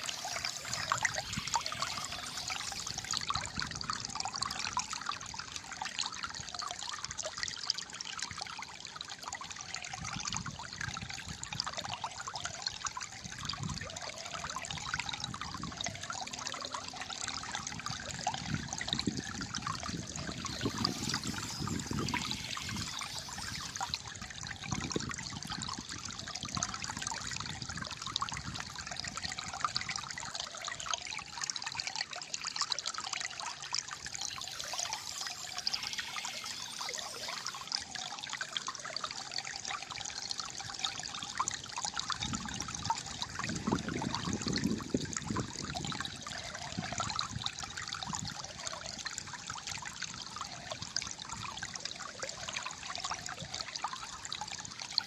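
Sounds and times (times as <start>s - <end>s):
water trickling and gurgling: 0.0s - 55.0s.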